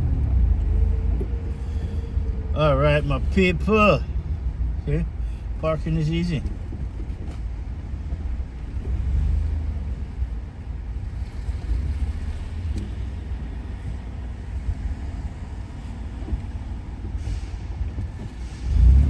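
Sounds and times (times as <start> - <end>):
car rumbling: 0.0 - 19.0.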